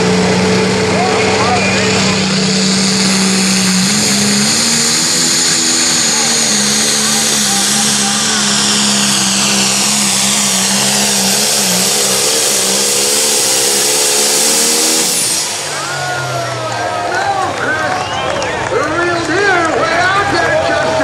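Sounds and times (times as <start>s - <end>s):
diesel engine at full throttle: 0.0s - 21.0s
high turbo whine: 0.0s - 21.0s.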